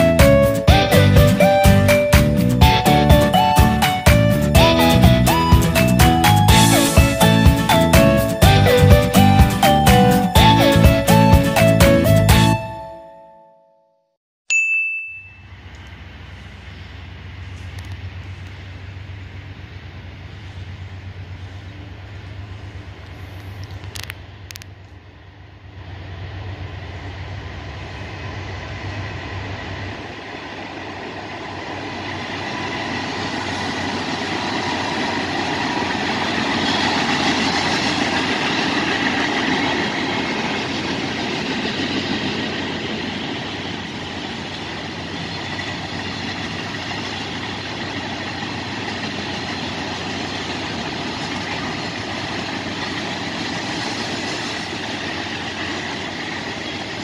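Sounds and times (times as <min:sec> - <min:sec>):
freight train wheels rumbling on track: 0:00.0 - 0:12.6, 0:15.5 - 0:57.0.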